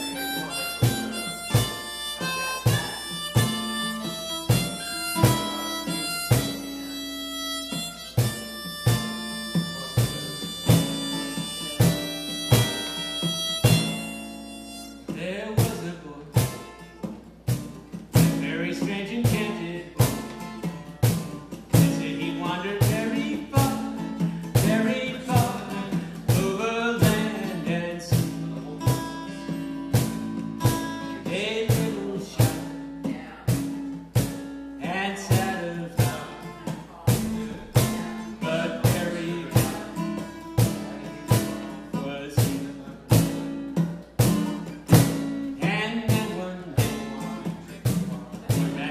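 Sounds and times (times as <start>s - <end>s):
man singing: 0.0s - 16.9s, 18.1s - 48.9s
acoustic guitar strumming: 0.0s - 48.9s.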